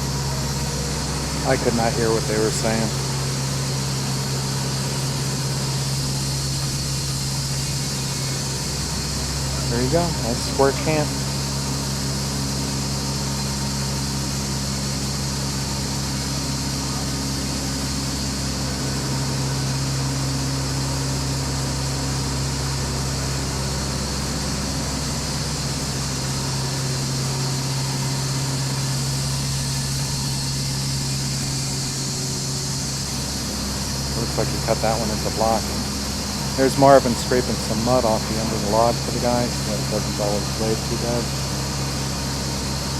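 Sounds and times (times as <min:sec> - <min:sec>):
sawmill machinery drone: 0:00.0 - 0:42.9.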